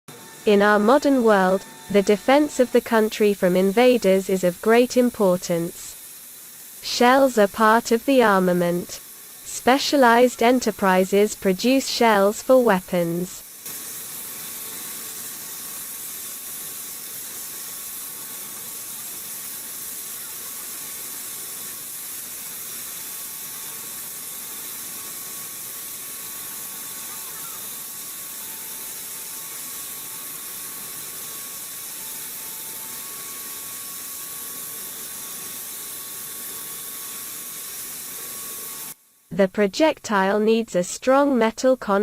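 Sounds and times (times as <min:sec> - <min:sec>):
steady hiss: 0:02.0 - 0:39.3.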